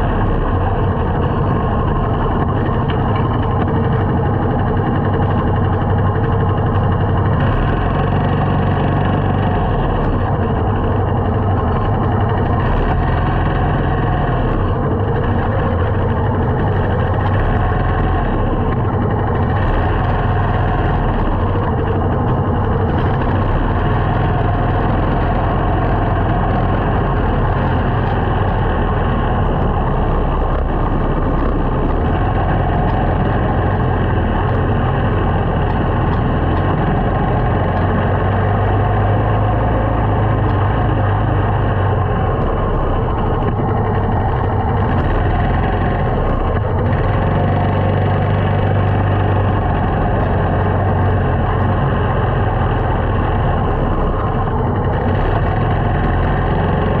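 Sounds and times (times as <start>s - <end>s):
motorcycle engine running: 0.0s - 57.0s
road noise rushing: 0.0s - 57.0s.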